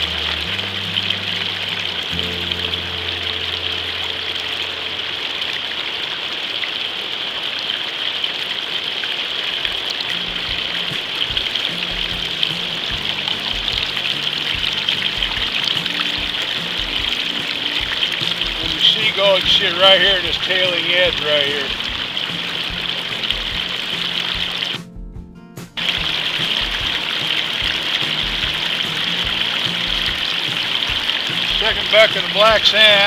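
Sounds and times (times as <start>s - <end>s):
water trickling over tray: 5.3s - 24.8s, 25.8s - 33.0s.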